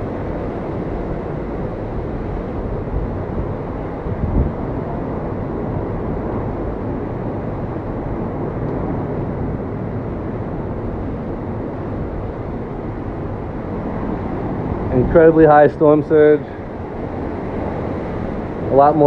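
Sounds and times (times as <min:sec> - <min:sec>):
strong wind: 0:00.0 - 0:19.0
surf: 0:00.0 - 0:19.0
wind buffeting microphone: 0:00.0 - 0:19.0.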